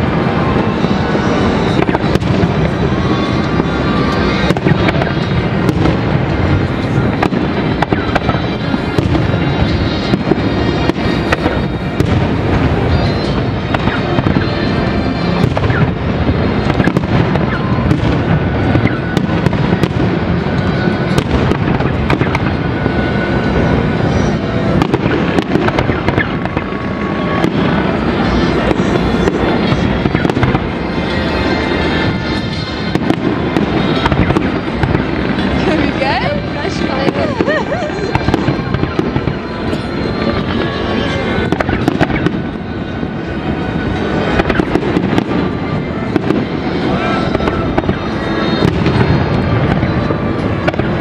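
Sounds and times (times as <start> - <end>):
constant din: 0.0 - 51.0.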